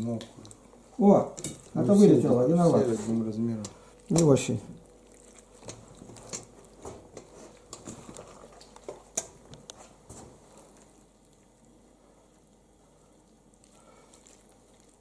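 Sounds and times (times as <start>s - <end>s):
hands handling wet raw fish: 2.5s - 15.0s.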